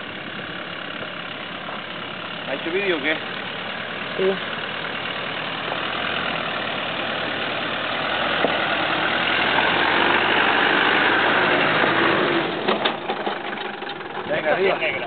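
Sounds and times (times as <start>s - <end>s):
vehicle engine under load: 0.0s - 15.0s.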